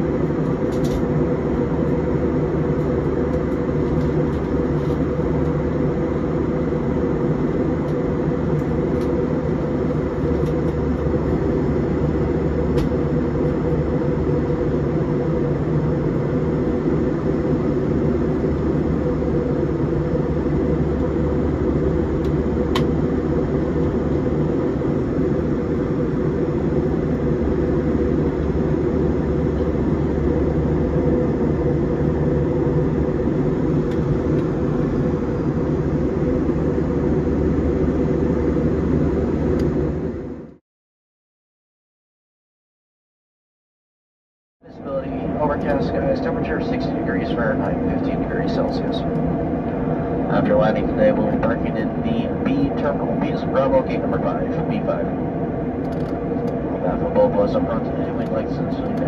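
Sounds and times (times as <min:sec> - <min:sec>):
airplane cabin drone: 0:00.0 - 0:40.6, 0:44.6 - 0:59.0.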